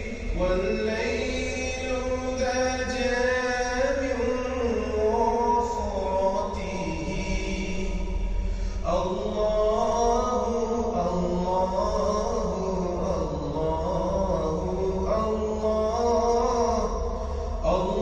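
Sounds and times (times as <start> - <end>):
person singing chant-like melody: 0.0 - 18.0.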